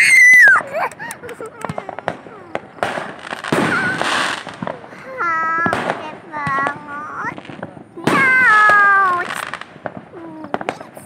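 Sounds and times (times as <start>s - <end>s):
firework bangs: 0.0s - 11.0s
voices calling out: 0.0s - 11.0s.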